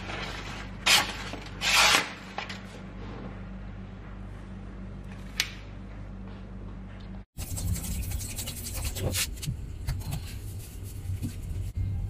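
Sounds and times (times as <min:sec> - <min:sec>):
low steady hum: 0:02.3 - 0:12.0.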